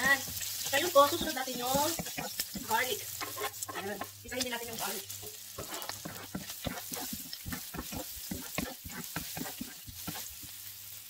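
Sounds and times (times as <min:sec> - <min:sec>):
wooden spatula scraping pan: 0:00.0 - 0:10.6
onions sizzling in oil: 0:00.0 - 0:11.0.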